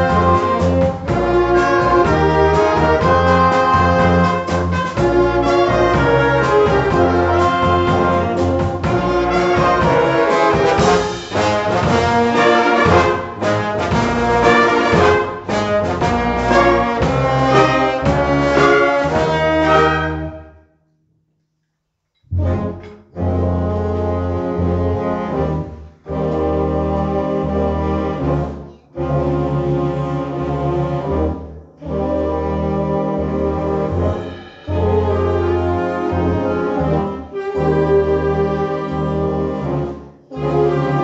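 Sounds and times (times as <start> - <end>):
wind band playing: 0.0 - 20.6, 22.3 - 41.0.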